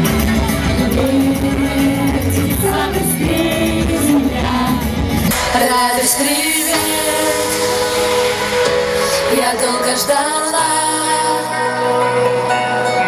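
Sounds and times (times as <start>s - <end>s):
pop accompaniment: 0.0s - 13.0s
women singing into microphones: 0.8s - 12.7s.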